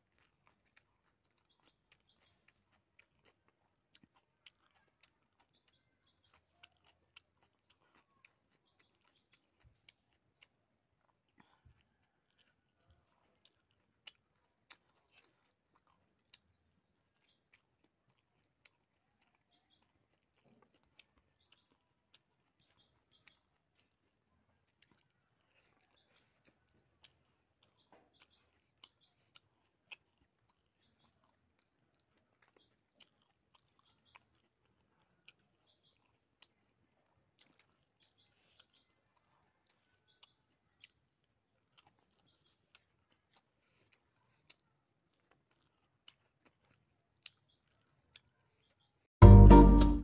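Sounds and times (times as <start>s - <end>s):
wet chewing: 0.0s - 50.0s.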